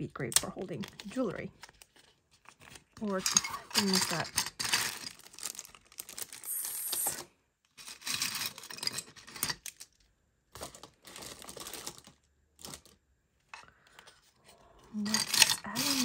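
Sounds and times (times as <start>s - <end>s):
plastic bags crinkling: 0.5s - 13.0s, 15.0s - 16.0s.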